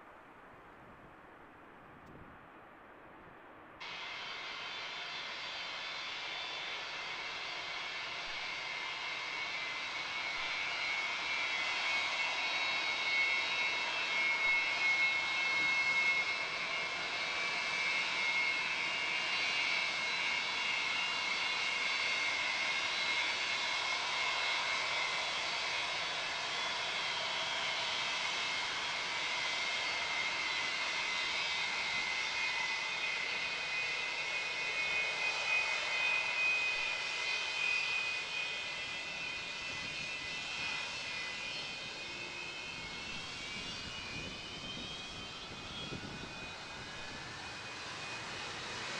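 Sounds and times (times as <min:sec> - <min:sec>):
jet engines whining: 0:03.8 - 0:48.9.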